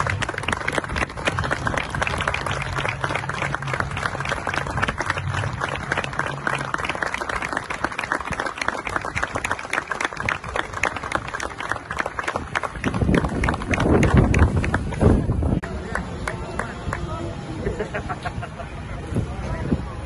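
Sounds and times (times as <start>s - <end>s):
large crowd clapping: 0.0s - 17.2s.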